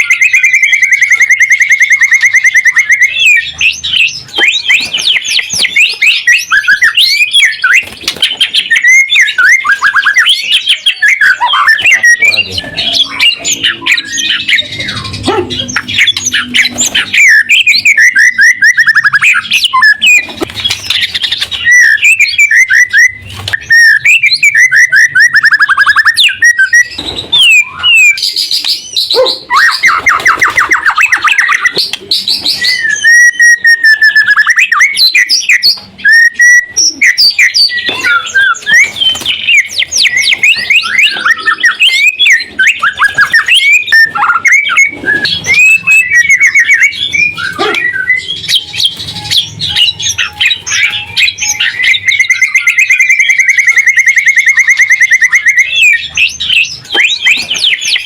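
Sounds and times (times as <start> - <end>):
songbird whistles and trills: 0.0 - 58.0.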